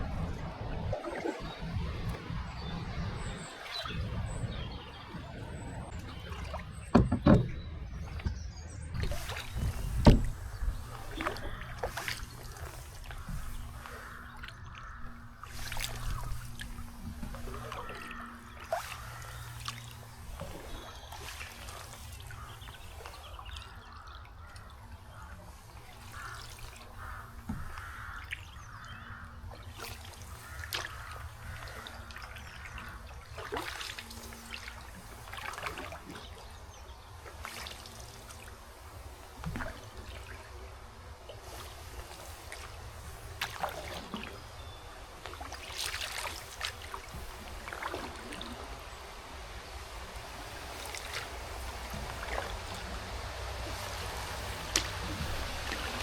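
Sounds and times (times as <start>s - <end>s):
paddle stroke splashes: 0.0s - 56.0s
water dripping off paddle: 0.0s - 56.0s.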